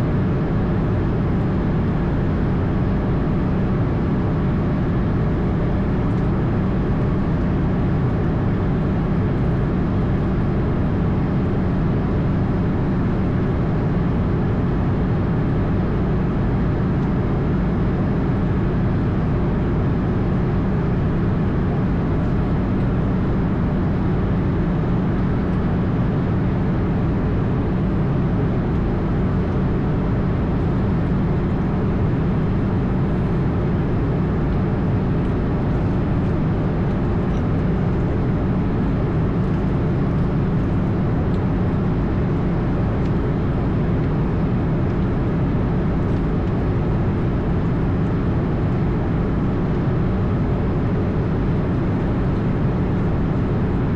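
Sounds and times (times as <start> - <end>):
aircraft engine drone: 0.0 - 53.9.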